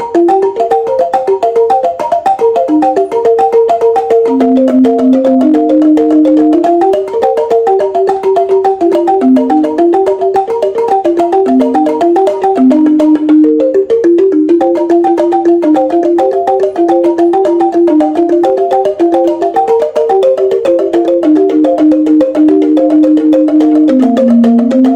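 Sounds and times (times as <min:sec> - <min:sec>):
bamboo instrument melody: 0:00.0 - 0:24.9.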